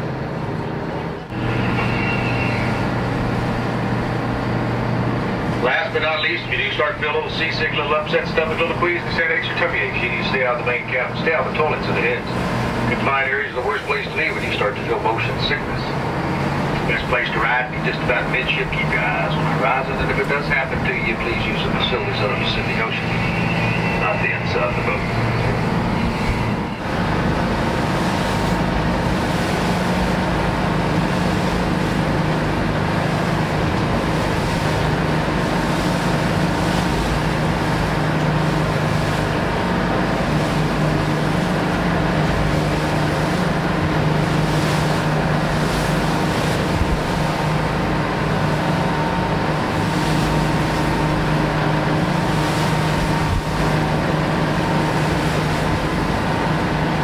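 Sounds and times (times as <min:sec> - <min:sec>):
boat engine humming: 0:00.0 - 0:57.0
rush of wind and water: 0:00.0 - 0:57.0.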